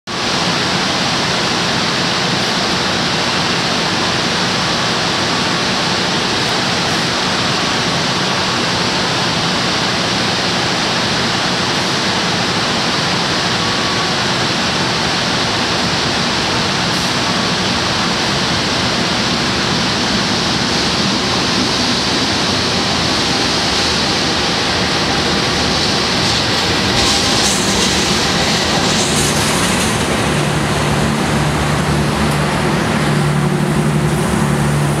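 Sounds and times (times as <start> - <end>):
loud rushing noise: 0.1 - 35.0
passenger train passing: 0.1 - 35.0.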